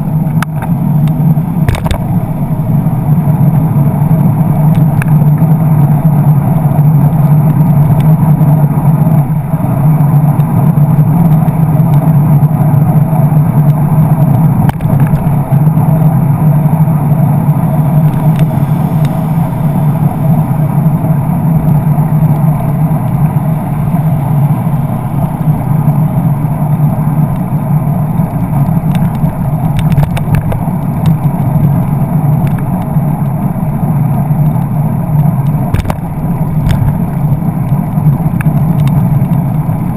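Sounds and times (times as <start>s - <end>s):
bicycle road rumble: 0.0s - 39.9s
car traffic: 0.0s - 39.9s
wind noise: 0.0s - 39.9s.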